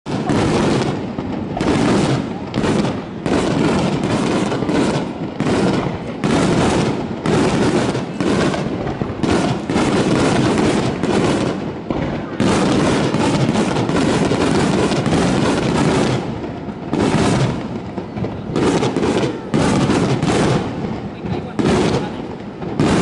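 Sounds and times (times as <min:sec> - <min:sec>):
fireworks bursting: 0:00.0 - 0:23.0
continuous rumble: 0:00.1 - 0:23.0.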